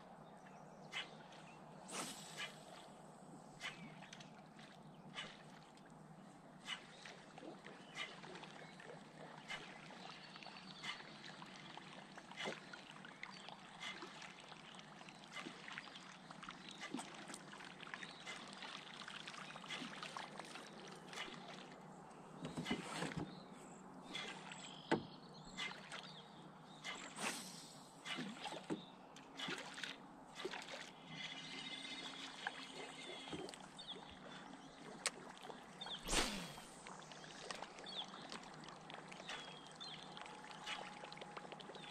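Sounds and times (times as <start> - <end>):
water lapping against boat hull: 0.3 - 41.9.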